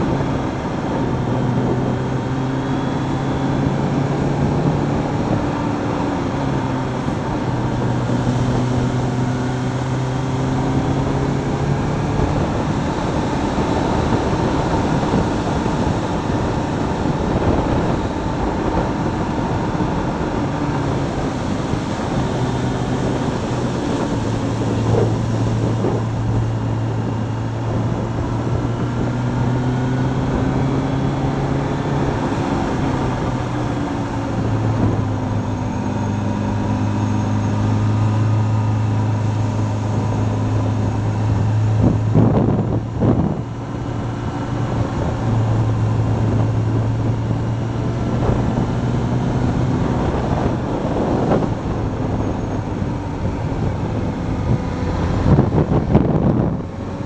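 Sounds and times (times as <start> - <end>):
motorcycle engine cruising: 0.0 - 57.0
wind on microphone: 0.0 - 57.0.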